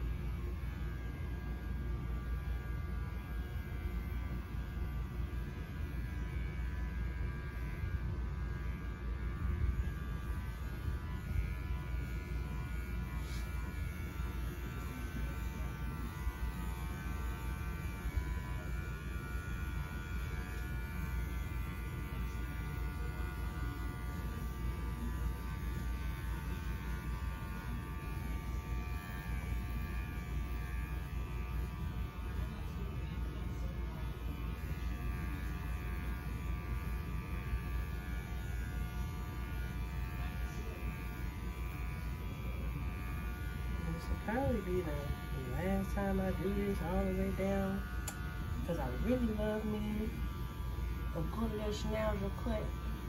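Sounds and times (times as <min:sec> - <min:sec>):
electric clippers running: 0:00.0 - 0:53.0.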